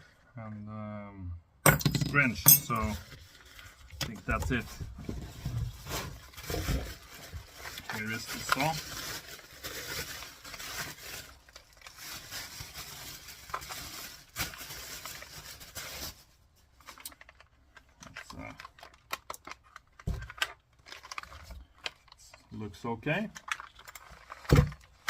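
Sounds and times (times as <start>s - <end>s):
packaging crinkling and tearing: 3.0s - 22.5s, 23.1s - 25.0s.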